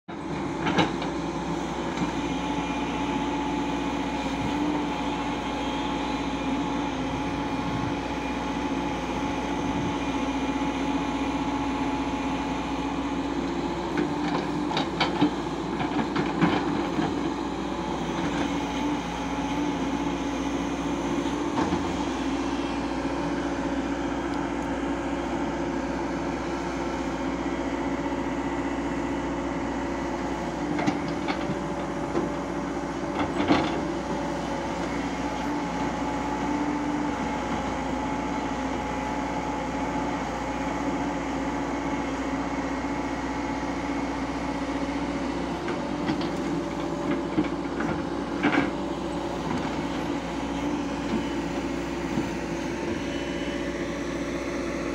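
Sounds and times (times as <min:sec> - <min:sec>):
excavator diesel engine running: 0:00.1 - 0:54.9.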